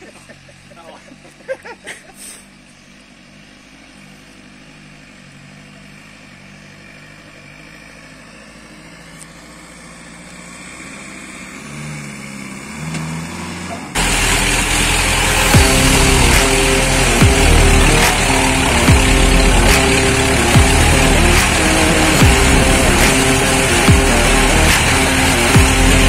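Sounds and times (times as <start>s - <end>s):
jeep engine labouring uphill: 0.0s - 26.0s.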